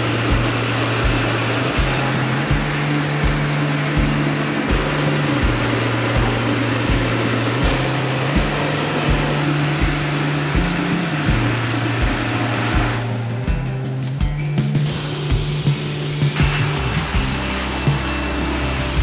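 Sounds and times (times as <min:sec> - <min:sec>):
bass line: 0:00.0 - 0:19.0
slow kick drum beat: 0:00.0 - 0:19.0.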